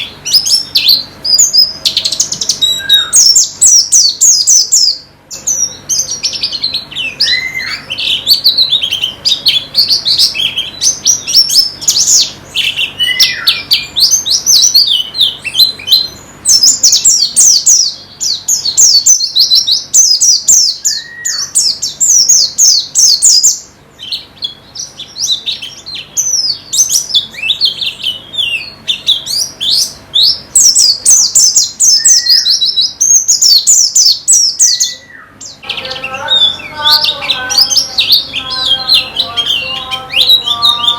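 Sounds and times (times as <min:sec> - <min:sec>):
bird call notes: 0:00.0 - 0:40.9
bird twittering: 0:00.0 - 0:40.9.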